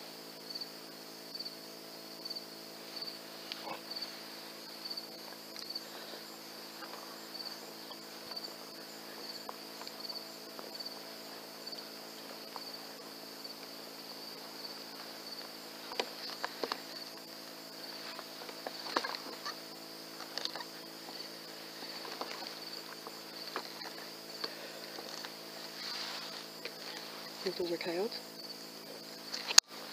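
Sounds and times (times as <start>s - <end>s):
crickets chirping: 0.0s - 29.9s
faint low hum: 0.0s - 29.9s.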